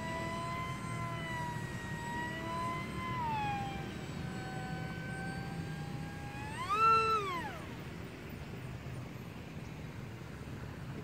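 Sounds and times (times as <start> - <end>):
model aircraft motor whining: 0.0 - 11.0.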